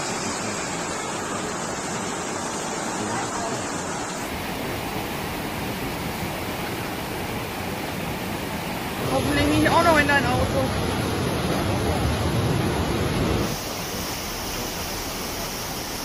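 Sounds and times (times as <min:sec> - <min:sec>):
rushing floodwater: 0:00.0 - 0:16.0.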